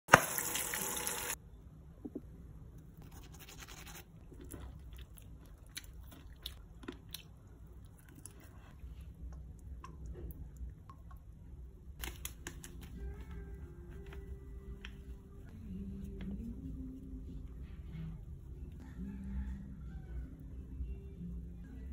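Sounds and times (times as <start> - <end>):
low steady hum: 0.3 - 21.9.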